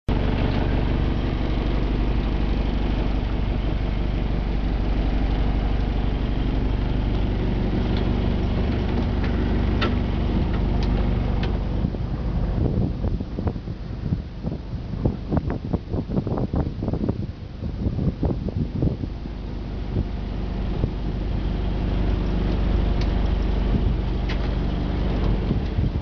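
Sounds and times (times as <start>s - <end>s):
motorboat engine idling: 0.1s - 26.0s.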